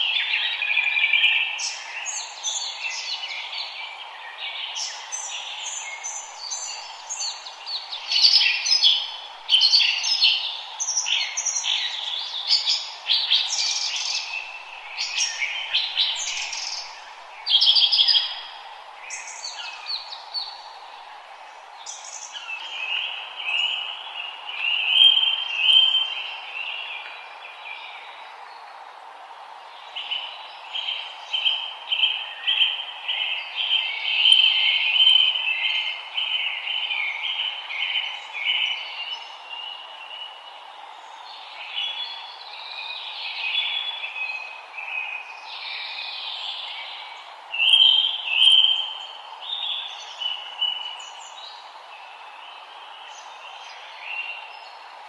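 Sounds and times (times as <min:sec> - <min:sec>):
small birds chirping and warbling: 0:00.0 - 0:21.2, 0:29.8 - 0:54.9
soft hiss: 0:01.6 - 0:55.0.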